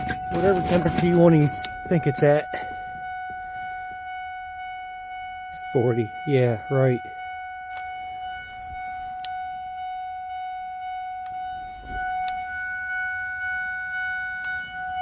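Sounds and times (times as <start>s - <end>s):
high-pitched electronic tone: 0.0s - 15.0s.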